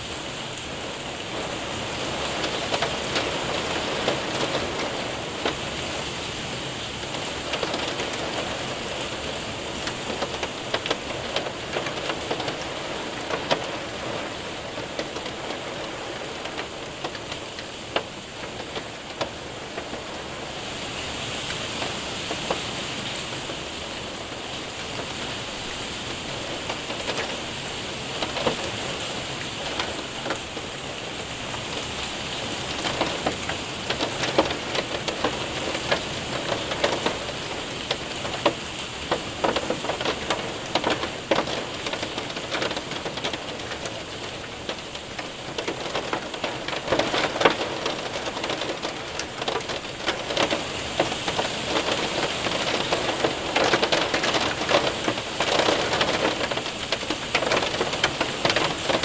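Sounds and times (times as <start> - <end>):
rain pattering: 0.0 - 59.0
hailstones ticking on window: 0.8 - 59.0.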